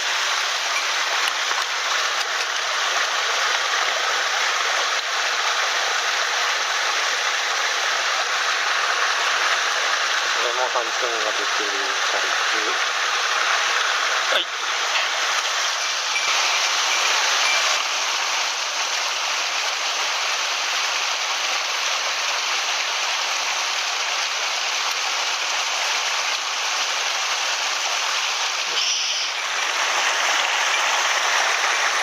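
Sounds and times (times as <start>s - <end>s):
stream flowing over rocks: 0.0s - 32.0s.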